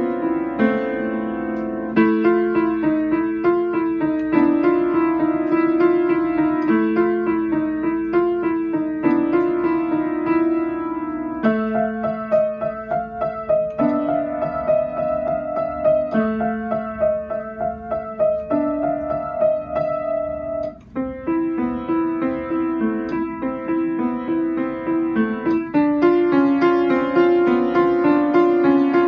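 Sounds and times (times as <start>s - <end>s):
keyboard music with chords: 0.0s - 29.0s.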